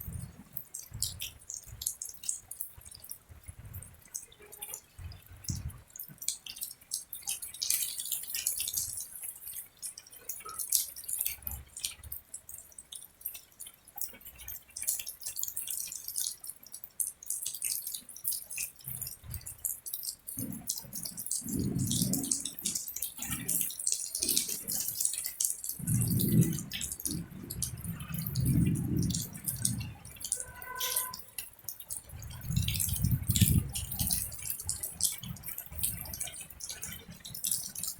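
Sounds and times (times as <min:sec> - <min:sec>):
rain drops ticking: 0:00.0 - 0:37.9.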